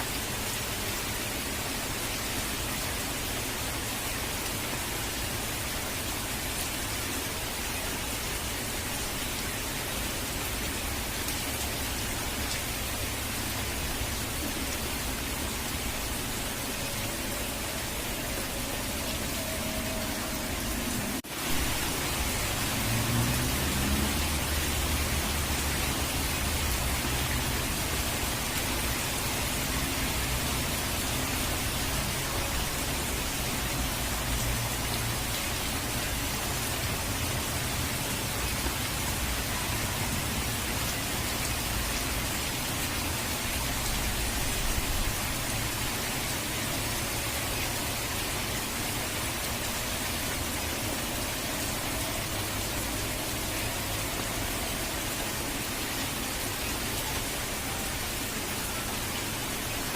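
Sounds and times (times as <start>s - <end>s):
rushing water: 0.0s - 59.9s
steady rain: 0.0s - 59.9s.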